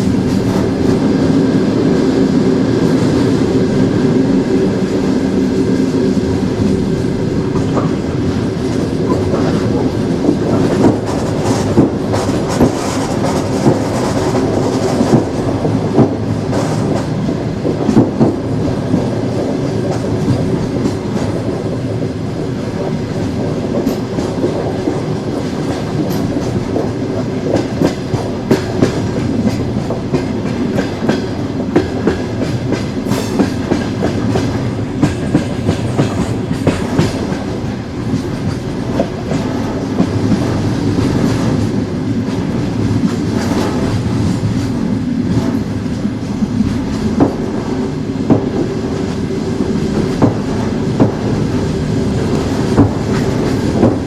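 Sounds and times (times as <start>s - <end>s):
train wheels rumbling on rails: 0.0s - 54.0s
wheels clacking over rail joints: 5.9s - 54.0s.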